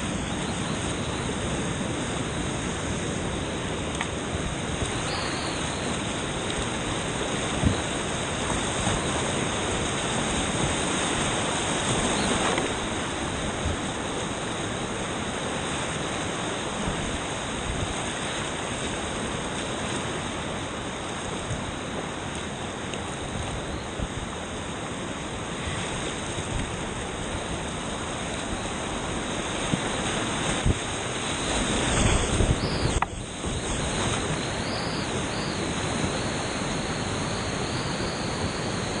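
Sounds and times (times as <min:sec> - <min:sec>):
creek whitewater rushing: 0:00.0 - 0:26.0, 0:26.7 - 0:39.0.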